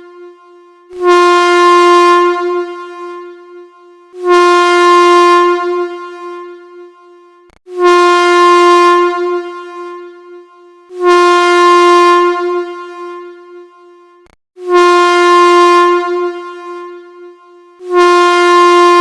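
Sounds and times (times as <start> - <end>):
air horn blasts: 0.0 - 19.0.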